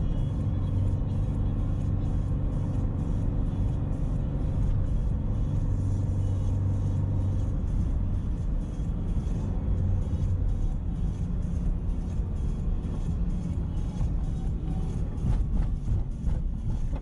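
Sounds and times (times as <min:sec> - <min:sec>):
car engine droning: 0:00.0 - 0:17.0
road noise: 0:00.0 - 0:17.0.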